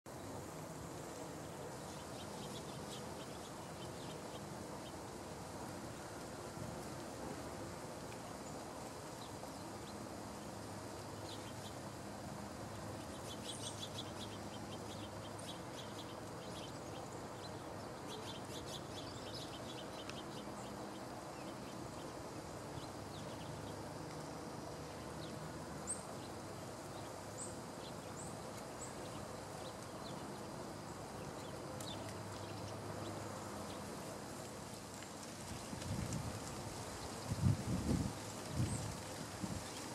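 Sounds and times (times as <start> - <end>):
steady outdoor hiss: 0.1 - 39.9
songbirds calling: 1.1 - 5.0, 8.2 - 39.9.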